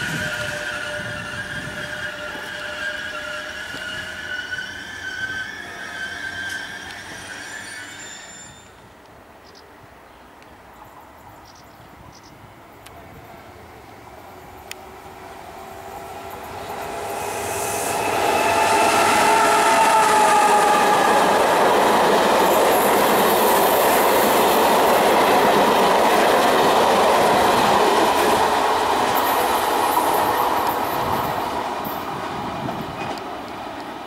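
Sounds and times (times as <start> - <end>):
electric locomotive whine: 0.0 - 9.1, 12.0 - 34.0
train wheels on track: 0.0 - 9.6, 10.3 - 34.0.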